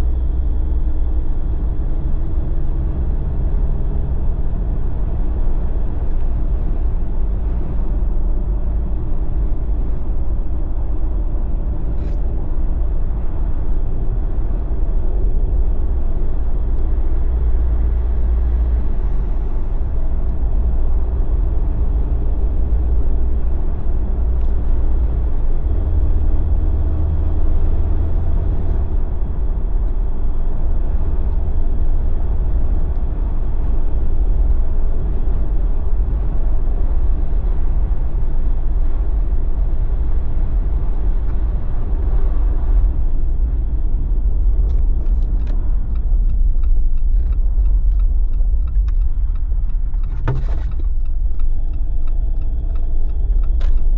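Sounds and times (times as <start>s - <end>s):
vehicle engine and tyres rumbling: 0.0s - 53.9s.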